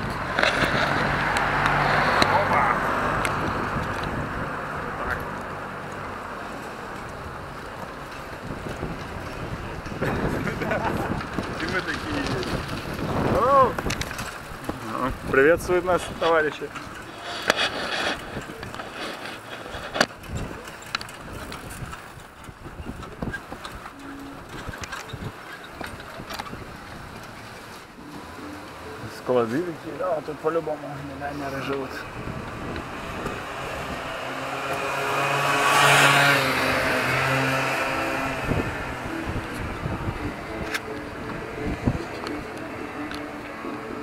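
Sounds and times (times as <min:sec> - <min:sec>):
wind on microphone: 0:00.0 - 0:06.2, 0:07.1 - 0:16.3, 0:16.9 - 0:27.6, 0:32.0 - 0:44.0
motorbike passing by: 0:00.0 - 0:19.2, 0:28.0 - 0:44.0
pedal rickshaw rattling: 0:00.0 - 0:44.0.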